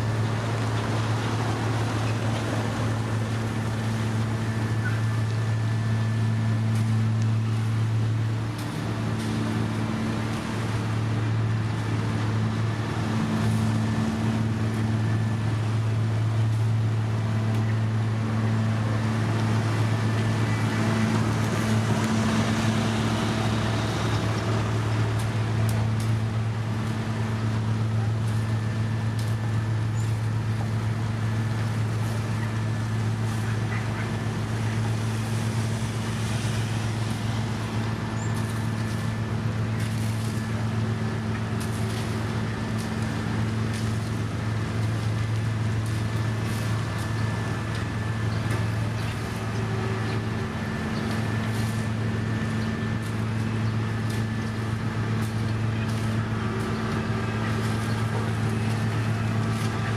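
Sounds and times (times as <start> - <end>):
heavy diesel engine humming: 0.0 - 59.9.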